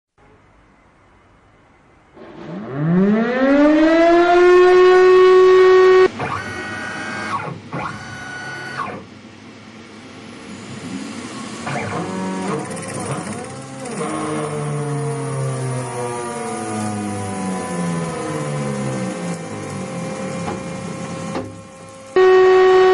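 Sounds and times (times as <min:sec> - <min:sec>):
stepper motor whining: 0:02.2 - 0:09.1, 0:10.3 - 0:22.9.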